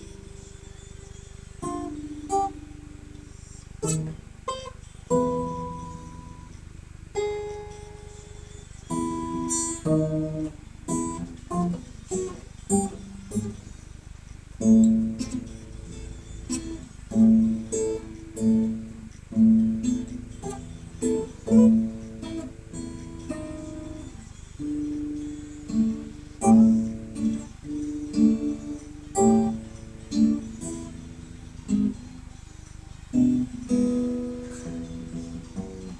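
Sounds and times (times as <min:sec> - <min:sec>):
guitar playing notes and chords: 0:00.0 - 0:35.9.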